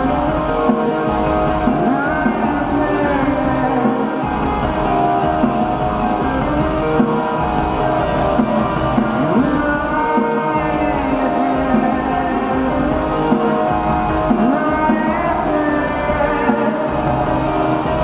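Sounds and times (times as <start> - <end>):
live rock music with electric guitar: 0.0 - 18.0.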